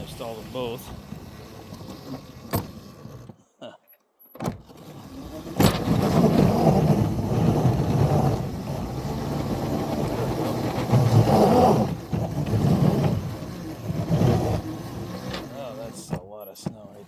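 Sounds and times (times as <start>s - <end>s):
locomotives churning through snow: 0.0s - 3.1s, 4.9s - 16.1s.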